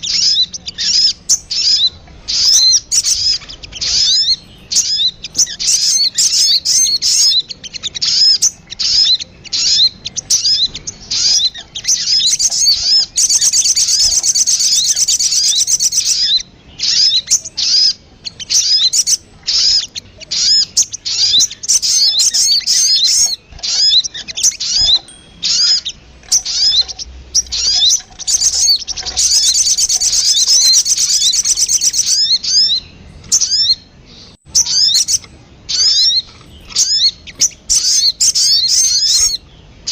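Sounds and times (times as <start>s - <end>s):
rapid bird trill: 0.0s - 39.9s
high-pitched bird lure chirps: 0.1s - 33.8s, 34.5s - 39.9s.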